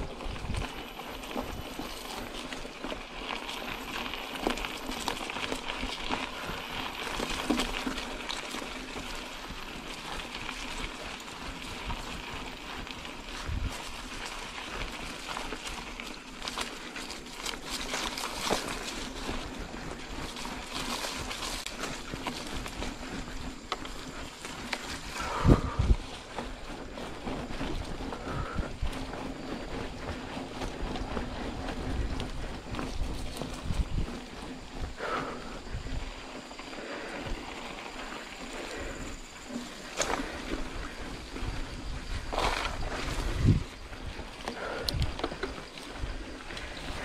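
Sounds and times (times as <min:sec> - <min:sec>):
bike rattling and clicking: 0:00.0 - 0:47.0
rush of riding noise: 0:00.0 - 0:47.0.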